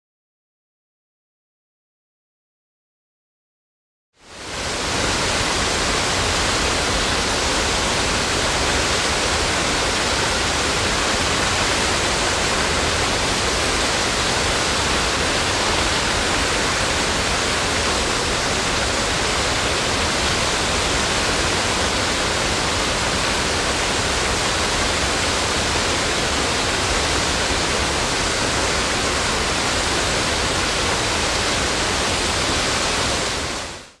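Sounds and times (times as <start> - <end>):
waterfall rushing: 4.2 - 34.0.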